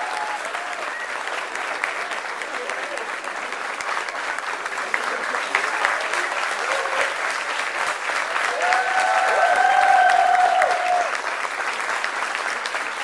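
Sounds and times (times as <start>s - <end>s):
audience applause: 0.0s - 13.0s
people cheering: 0.0s - 13.0s.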